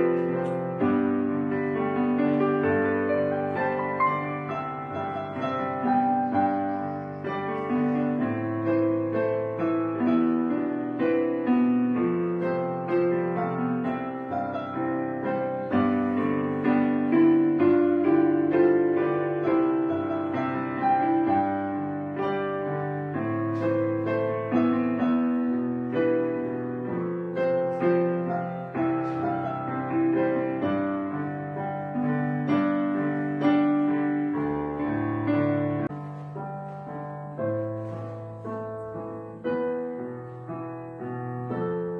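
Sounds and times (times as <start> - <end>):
slow gentle piano music: 0.0 - 41.9.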